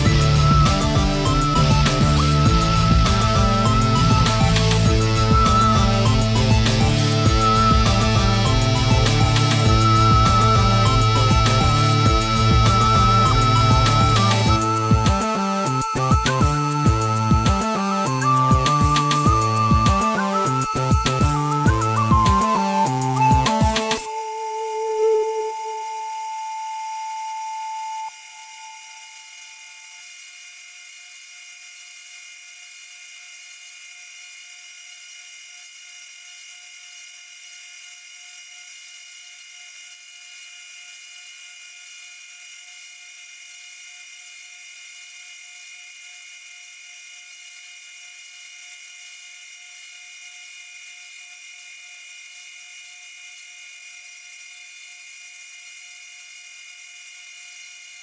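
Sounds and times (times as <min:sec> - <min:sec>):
mill spindle whine: 0:00.0 - 0:58.0.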